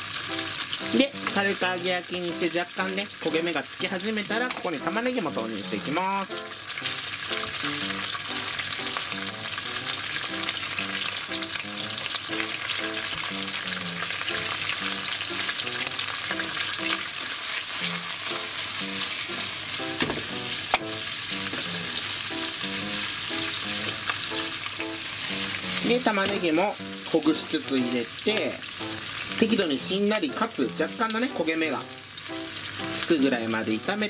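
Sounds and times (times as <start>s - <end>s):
bacon sizzling in frying pan: 0.0s - 34.0s.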